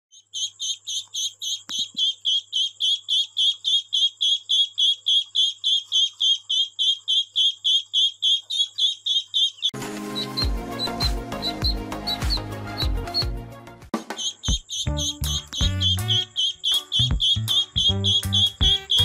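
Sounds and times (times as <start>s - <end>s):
duckling peeping: 0.1s - 13.3s, 14.1s - 19.0s.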